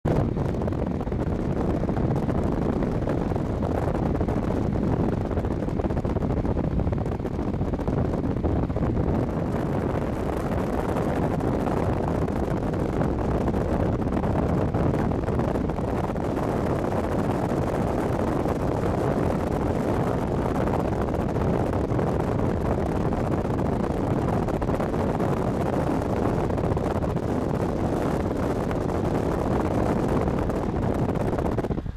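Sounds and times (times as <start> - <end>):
wind buffeting microphone: 0.0 - 31.9
car road noise: 0.1 - 31.9.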